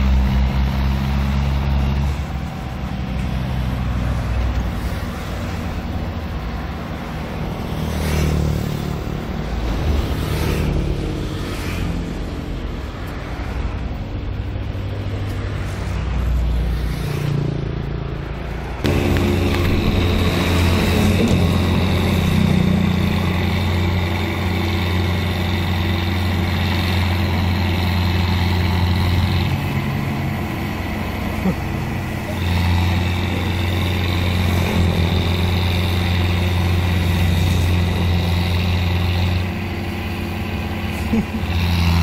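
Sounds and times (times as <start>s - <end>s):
tractor engine running under load: 0.0s - 11.4s, 17.9s - 42.0s.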